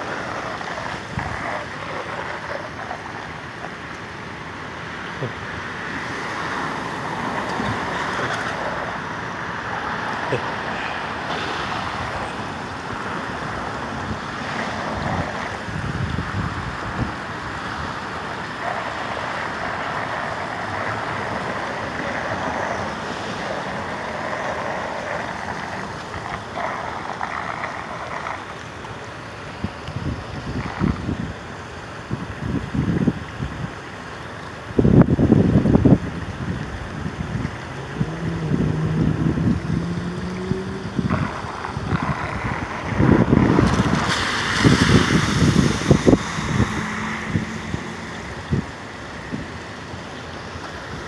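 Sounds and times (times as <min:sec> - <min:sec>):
steady outdoor rushing noise: 0:00.0 - 0:51.0
wind gusting on microphone: 0:00.0 - 0:51.0.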